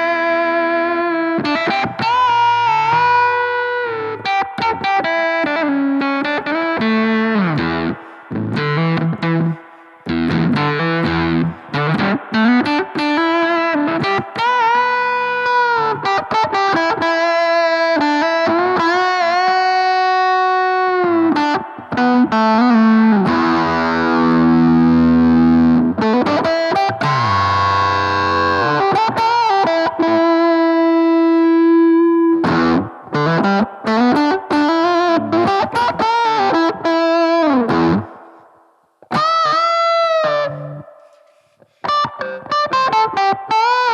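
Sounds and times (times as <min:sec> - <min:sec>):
electric guitar solo: 0:00.0 - 0:43.9.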